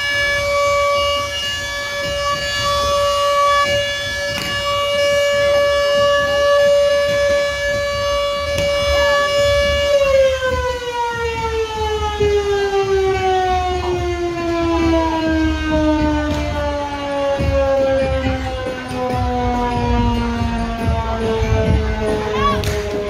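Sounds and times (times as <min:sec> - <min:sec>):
siren winding down: 0:00.0 - 0:23.0.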